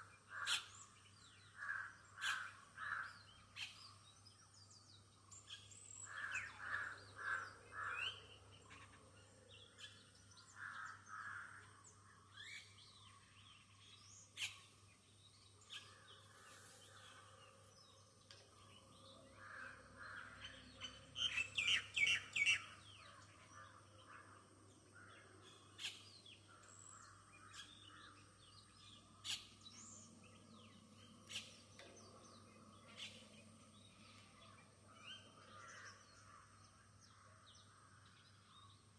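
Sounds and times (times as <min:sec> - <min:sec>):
birds chirping and calling: 0:00.1 - 0:04.5, 0:05.4 - 0:38.8.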